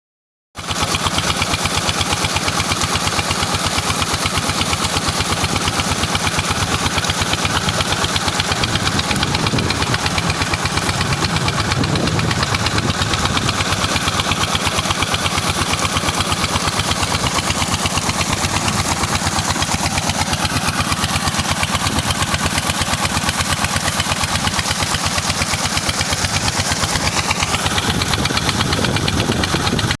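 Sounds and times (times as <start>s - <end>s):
small petrol pump engine running: 0.6s - 30.0s.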